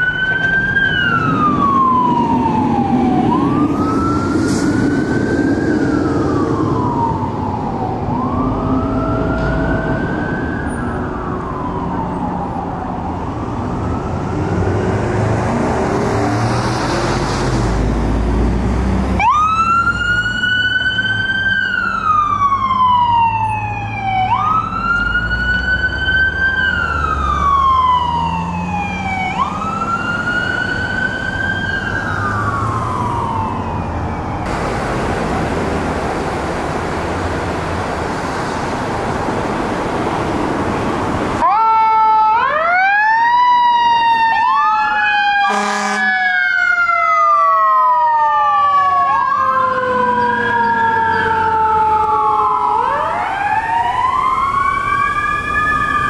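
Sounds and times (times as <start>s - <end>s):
emergency siren wailing: 0.0s - 56.0s
engines and traffic rumble: 0.0s - 56.0s.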